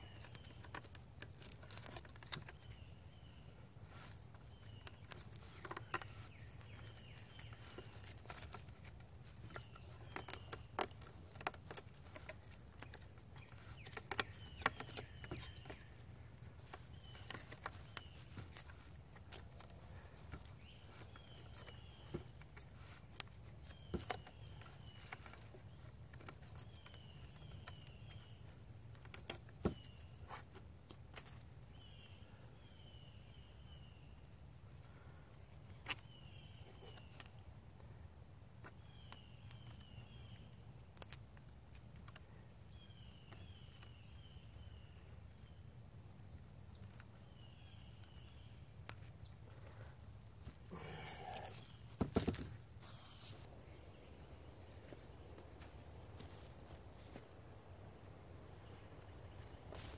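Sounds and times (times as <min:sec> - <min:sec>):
bird chirping: 0:00.0 - 0:30.5, 0:31.2 - 0:37.4, 0:41.8 - 0:59.9
bark and pine needles crackling: 0:00.0 - 0:59.9.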